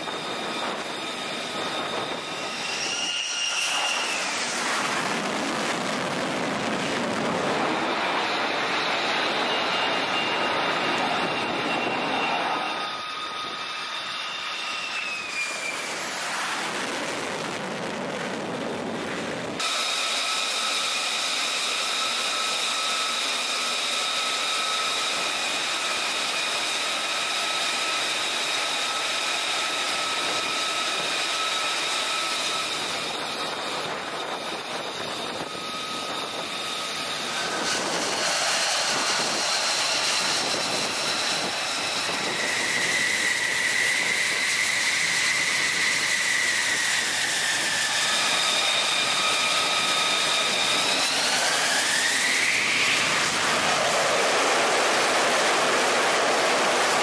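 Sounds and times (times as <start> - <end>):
jet engine high whine: 0.0 - 57.0.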